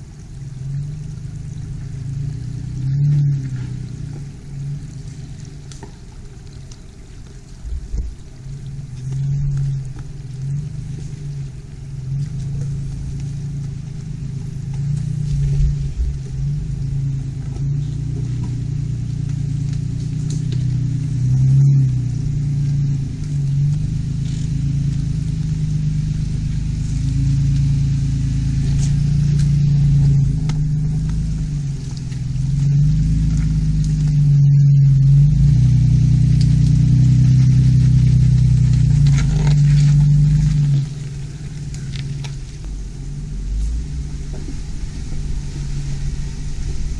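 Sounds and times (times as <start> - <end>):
low rumble: 0.0 - 46.9
suv engine running: 0.0 - 46.9.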